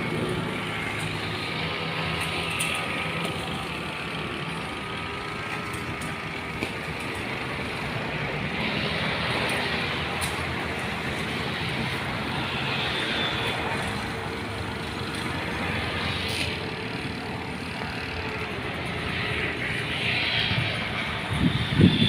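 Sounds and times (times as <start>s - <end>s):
brush cutter engine running: 0.0s - 22.0s
road traffic: 0.0s - 22.0s.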